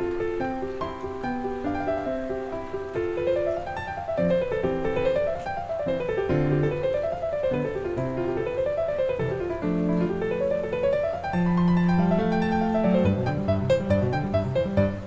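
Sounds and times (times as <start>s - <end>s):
calm classical piano music: 0.0s - 15.0s.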